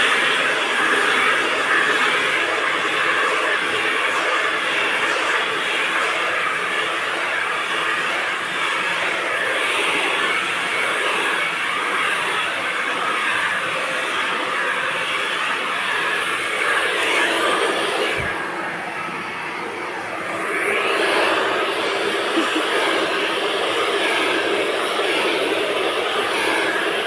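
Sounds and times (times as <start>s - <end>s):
hair dryer blowing: 0.0s - 27.0s.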